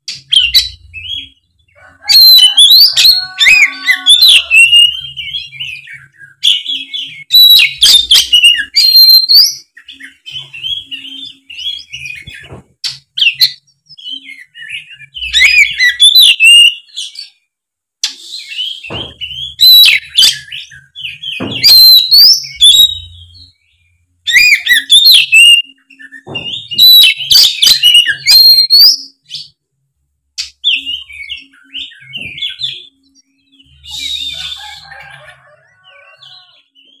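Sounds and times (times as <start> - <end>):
songbird whistles and chirps: 0.0 - 17.4, 18.0 - 29.6, 30.4 - 37.0.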